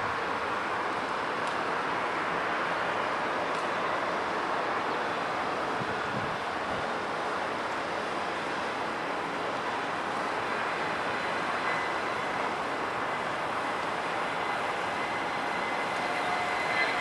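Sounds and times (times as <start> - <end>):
faint high whine: 0.0 - 17.0
jet engines roaring: 0.0 - 17.0.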